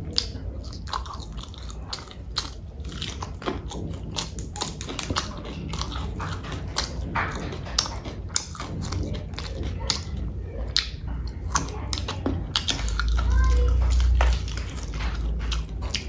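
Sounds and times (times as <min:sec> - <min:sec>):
person chewing and crunching food: 0:00.0 - 0:16.0.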